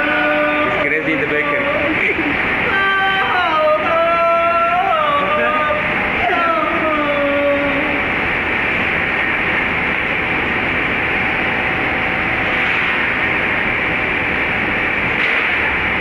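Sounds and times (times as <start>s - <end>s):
machine hiss and drone: 0.0s - 16.0s.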